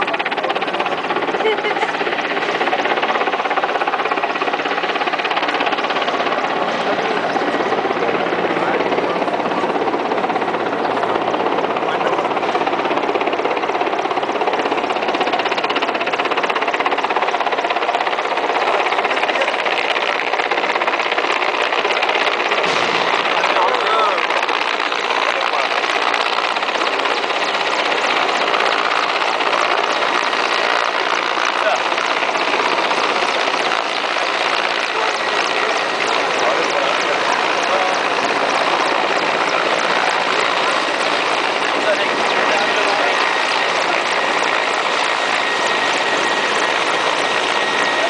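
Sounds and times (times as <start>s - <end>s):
helicopter rotor throbbing: 0.0s - 48.0s
helicopter turbine noise: 0.0s - 48.0s.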